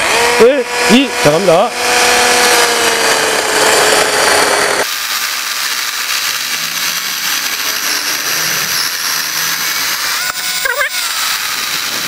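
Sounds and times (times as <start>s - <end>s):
chainsaw cutting wood: 0.0s - 12.0s
electric chainsaw whining: 0.0s - 12.0s.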